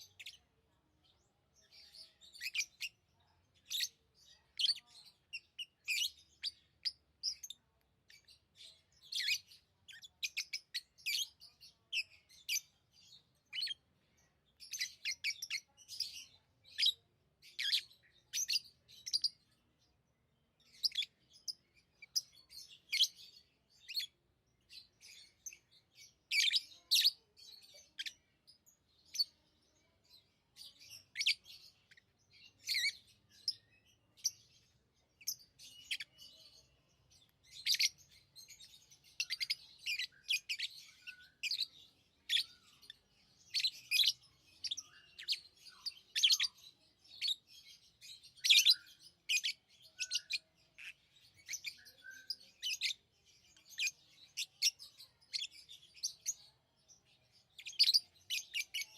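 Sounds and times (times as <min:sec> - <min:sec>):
lovebirds chirping: 0:00.0 - 0:58.9.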